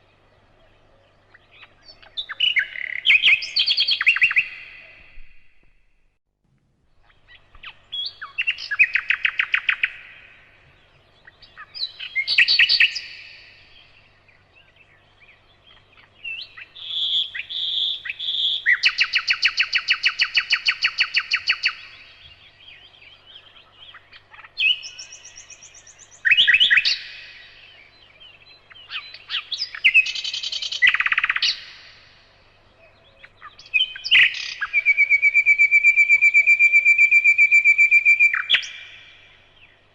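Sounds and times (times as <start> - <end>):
songbird trilling and chirping: 0.6 - 5.2, 7.0 - 39.9.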